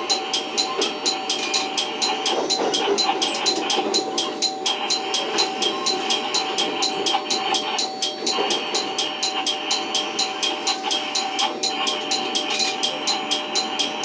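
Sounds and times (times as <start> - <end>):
fast even ticking: 0.0 - 14.0
railcar rumble and hum: 0.0 - 14.0.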